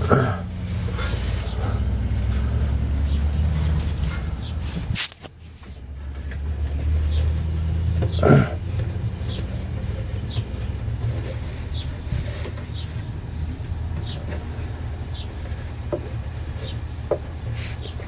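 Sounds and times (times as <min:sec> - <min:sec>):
small birds chirping: 0:00.8 - 0:18.0.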